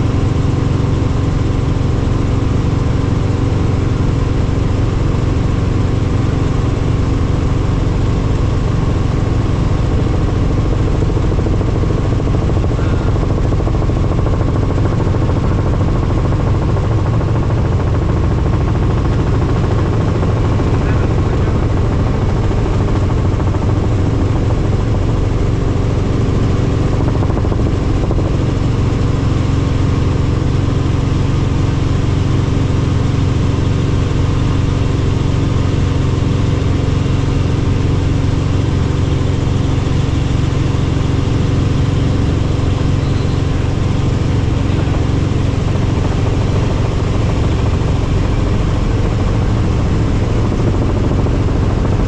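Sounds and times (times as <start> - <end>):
helicopter engine and rotor drone: 0.0 - 52.0.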